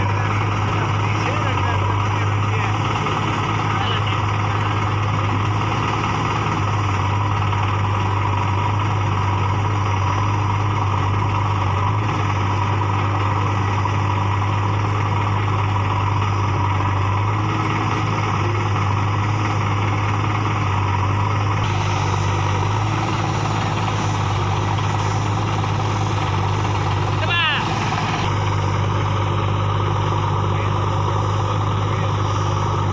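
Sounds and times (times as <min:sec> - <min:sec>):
diesel engines idling: 0:00.0 - 0:32.9.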